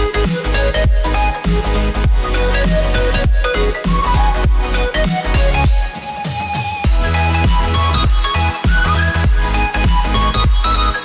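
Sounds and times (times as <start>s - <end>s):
deep bass drops: 0.0s - 6.0s, 6.8s - 11.0s
dubstep music: 0.0s - 11.0s.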